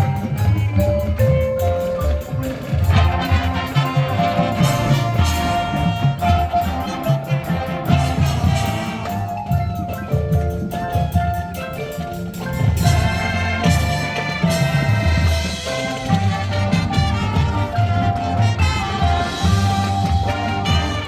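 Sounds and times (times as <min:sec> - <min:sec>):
brass: 0:00.0 - 0:09.9, 0:11.9 - 0:21.0
drums beating: 0:00.0 - 0:21.0
mallet percussion: 0:00.0 - 0:21.0.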